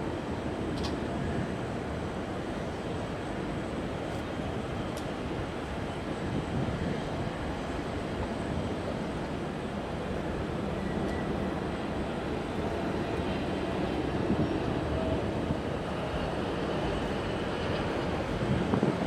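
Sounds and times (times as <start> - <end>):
distant jet engine rumble: 0.2 - 19.0.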